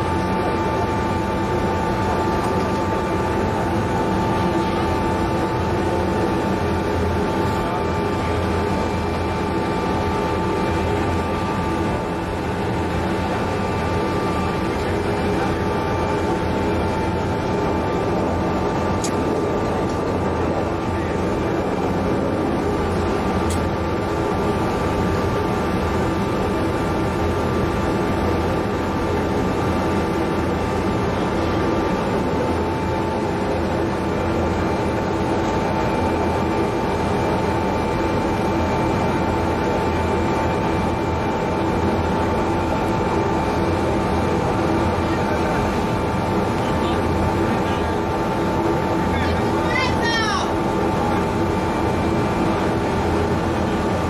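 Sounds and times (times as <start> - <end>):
machinery drone with high whine: 0.0 - 54.0.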